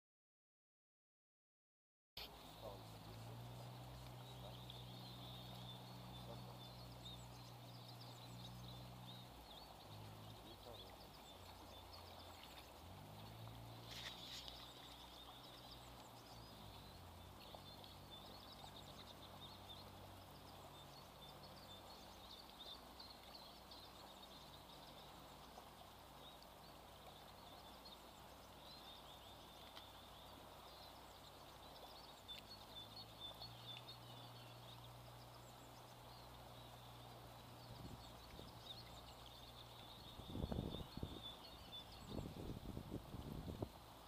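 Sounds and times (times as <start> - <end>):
faint low hum: 2.2 - 44.0
river water rushing: 2.2 - 44.0
small birds chirping: 2.2 - 44.0.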